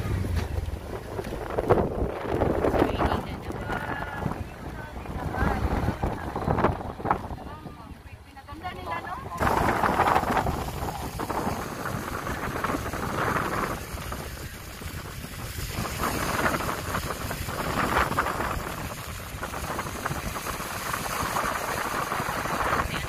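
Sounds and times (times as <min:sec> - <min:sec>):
gusty wind on microphone: 0:00.0 - 0:23.0.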